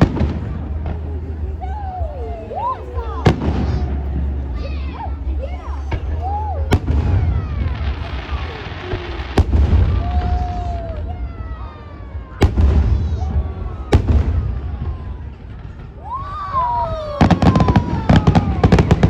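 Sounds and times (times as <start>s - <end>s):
low rumble: 0.0s - 16.2s
fireworks bangs: 0.0s - 19.0s
whistling fireworks: 0.0s - 19.0s.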